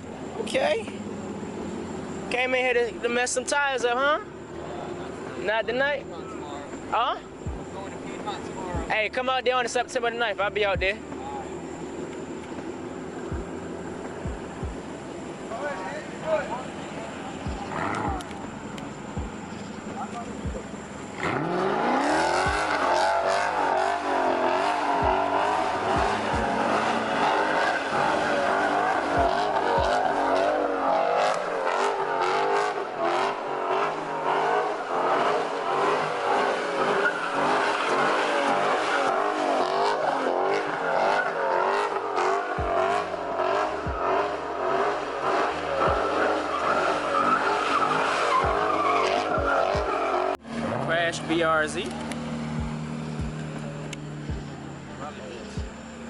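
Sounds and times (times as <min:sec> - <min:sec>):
car engine: 0:00.0 - 0:56.0
tyres squealing: 0:00.0 - 0:56.0.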